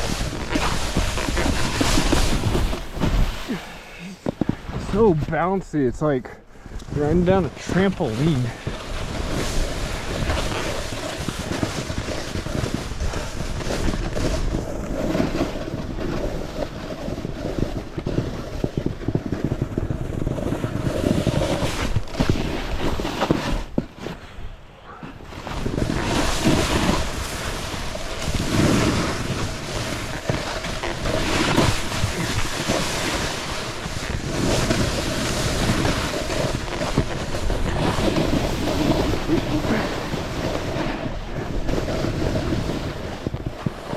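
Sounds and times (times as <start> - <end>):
snowboard carving through snow: 0.0 - 43.9
wind on microphone: 0.0 - 43.9.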